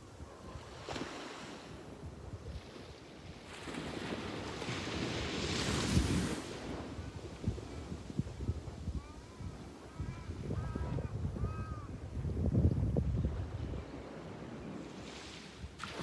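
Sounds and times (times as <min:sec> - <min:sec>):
sea waves breaking on a beach: 0:00.0 - 0:11.0, 0:13.2 - 0:16.0.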